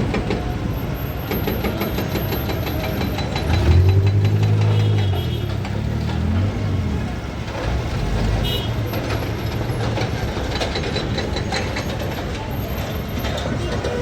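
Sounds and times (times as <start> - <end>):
diesel engine clattering: 0.0 - 14.0.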